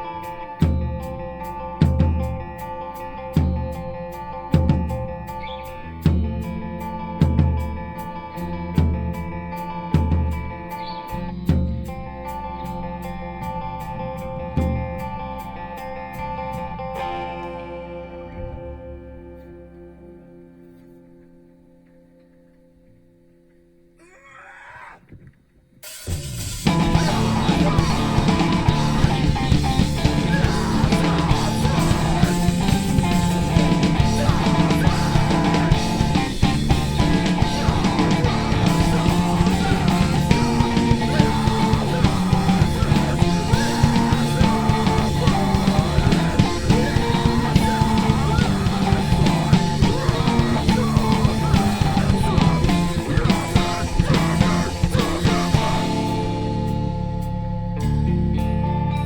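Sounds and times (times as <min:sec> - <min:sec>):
rock band playing live: 0:00.0 - 0:20.0, 0:25.9 - 0:59.0.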